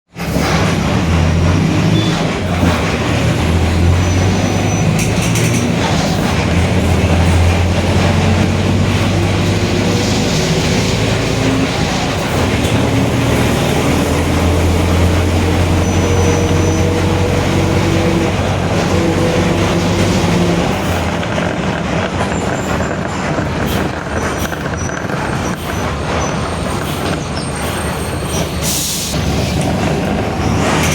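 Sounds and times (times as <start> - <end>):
diesel bus engine drone: 0.1 - 30.9.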